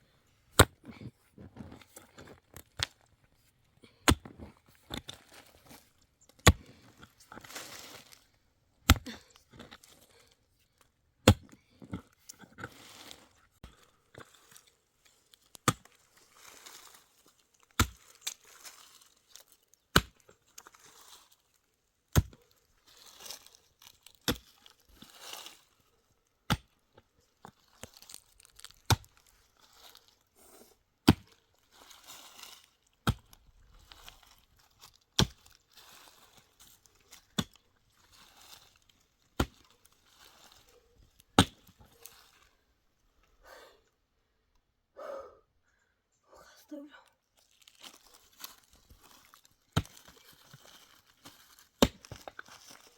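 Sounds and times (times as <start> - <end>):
crunching and scraping: 0.5 - 43.1, 47.2 - 52.9.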